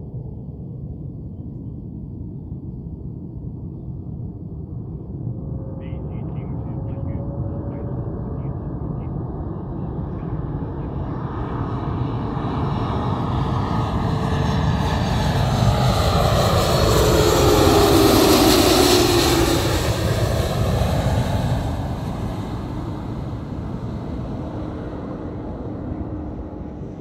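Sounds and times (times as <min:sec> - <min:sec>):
jet airliner passing by: 0:00.0 - 0:27.0.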